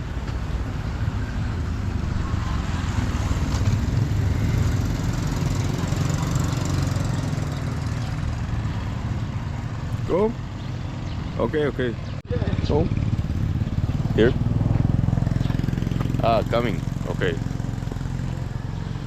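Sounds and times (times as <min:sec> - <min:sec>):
small engine rumbling: 0:00.0 - 0:19.0.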